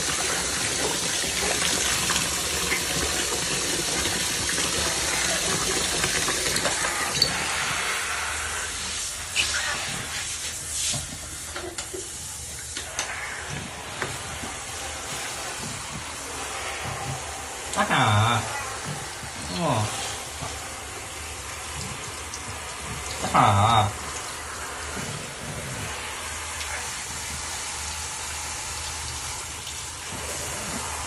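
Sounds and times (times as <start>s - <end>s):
water running: 0.0s - 31.0s.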